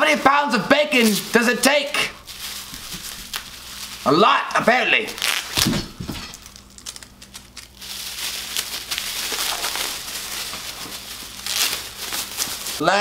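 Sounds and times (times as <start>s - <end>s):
plastic wrapping crinkling: 0.9s - 12.8s.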